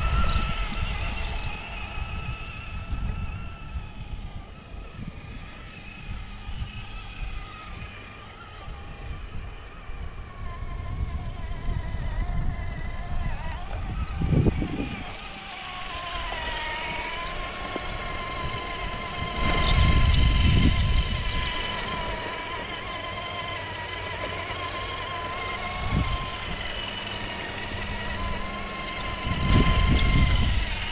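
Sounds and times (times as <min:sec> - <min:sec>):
electric motor and gear whine: 0:00.0 - 0:30.9
low rumbling surges: 0:00.0 - 0:30.9.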